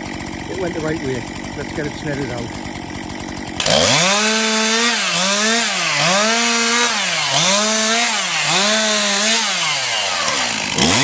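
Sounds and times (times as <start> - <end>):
chainsaw revving and cutting: 0.0 - 11.0.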